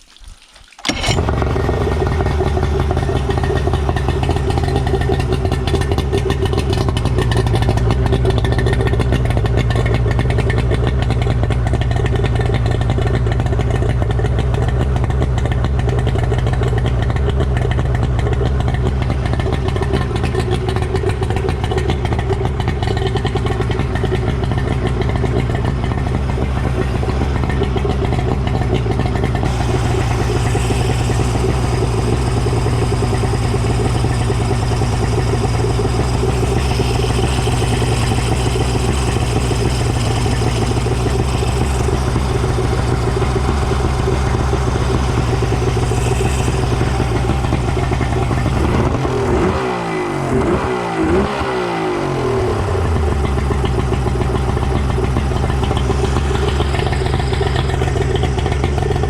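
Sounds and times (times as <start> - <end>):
outboard motor running: 0.8 - 59.0.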